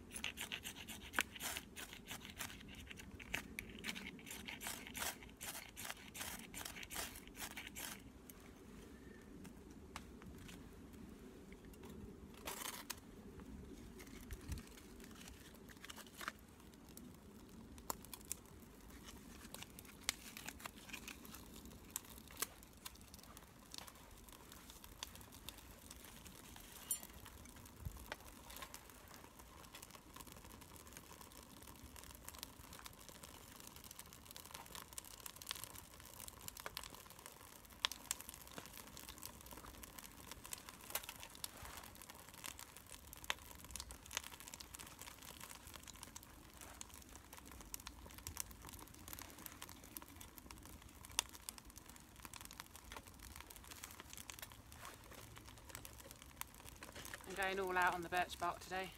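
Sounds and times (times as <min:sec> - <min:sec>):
bark crinkling and tearing: 0:00.0 - 0:08.1, 0:11.7 - 0:58.5
fire clicks and cracks: 0:00.0 - 0:58.9.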